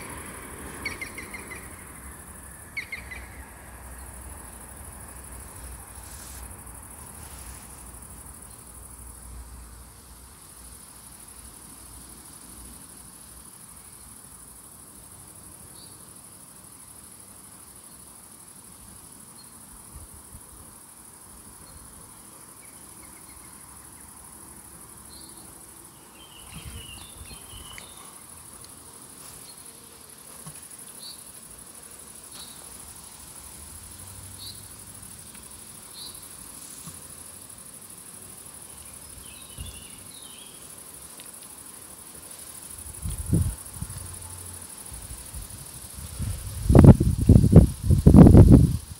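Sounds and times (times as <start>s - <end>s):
crickets chirring: 0.0s - 48.9s.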